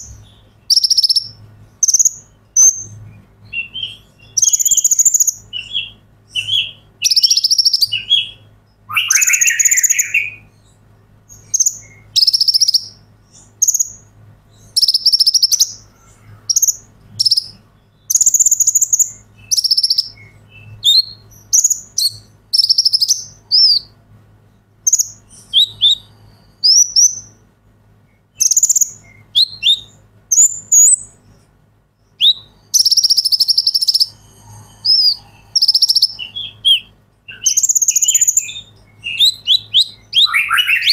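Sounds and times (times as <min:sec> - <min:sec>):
bird singing high trills: 0:00.0 - 0:14.0, 0:14.6 - 0:23.9, 0:24.9 - 0:27.4, 0:28.4 - 0:31.2, 0:32.0 - 0:40.9
thin bird chirps: 0:00.0 - 0:24.0, 0:24.8 - 0:31.4, 0:32.0 - 0:40.9.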